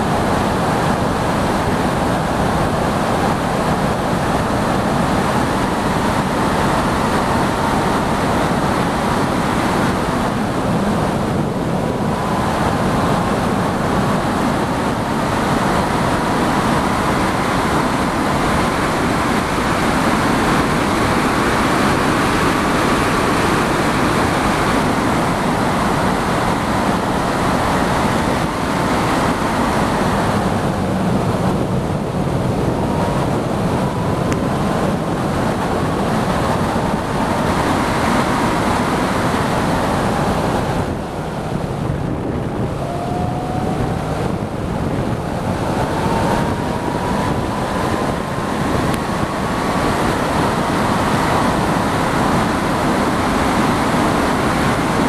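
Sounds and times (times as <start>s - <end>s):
wind buffeting microphone: 0.0s - 55.0s
car engine: 4.3s - 54.6s.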